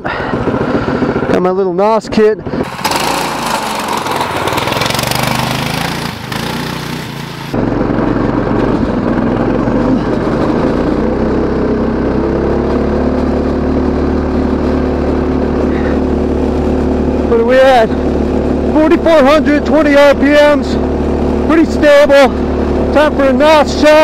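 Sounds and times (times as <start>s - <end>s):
small engine at high revs: 0.0s - 1.7s, 2.5s - 24.0s.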